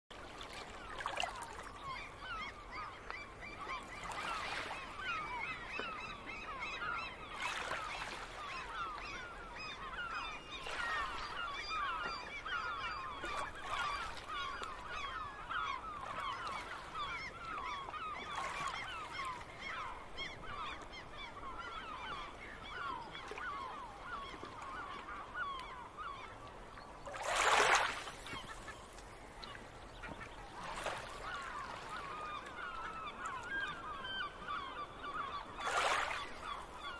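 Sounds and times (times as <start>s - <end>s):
gulls calling: 0.4s - 36.9s.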